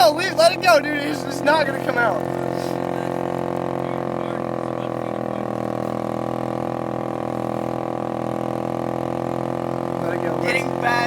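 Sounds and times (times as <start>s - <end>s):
heater blower whirring drone: 0.0s - 11.0s.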